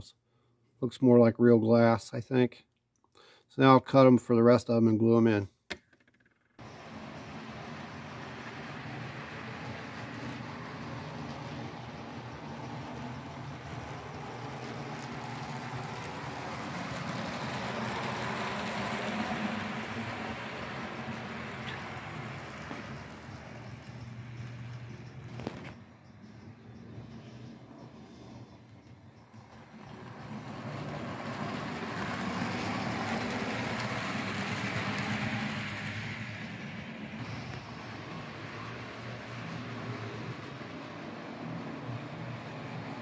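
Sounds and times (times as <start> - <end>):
model train motor hum: 6.6 - 25.0, 26.8 - 43.0
wheels rushing on rail: 6.6 - 43.0.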